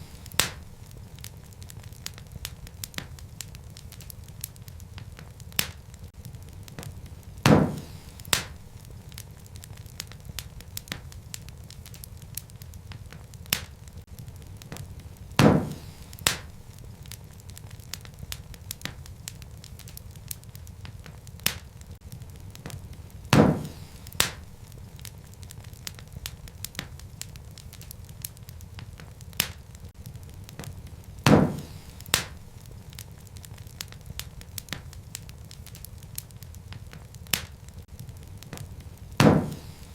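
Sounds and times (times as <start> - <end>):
loud pops from fire: 0.0 - 39.9
wood fire crackling: 0.0 - 39.9.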